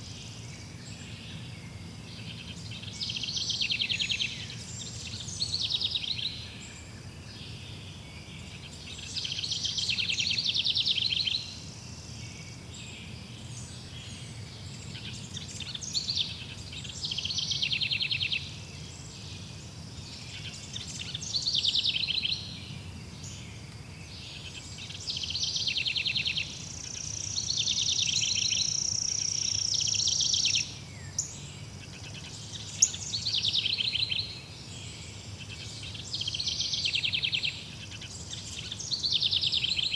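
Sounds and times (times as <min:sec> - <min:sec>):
birds singing trills: 0:00.0 - 0:39.9.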